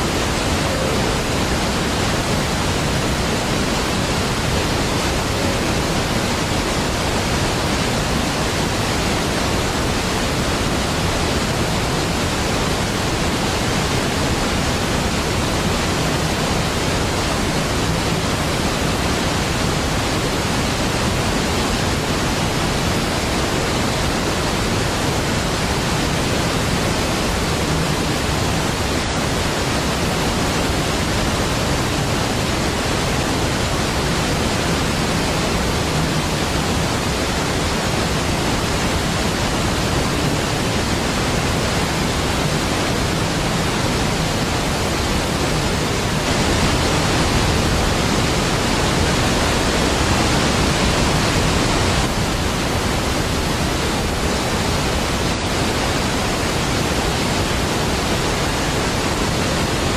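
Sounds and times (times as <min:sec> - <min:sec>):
large waterfall rushing: 0:00.0 - 0:59.9.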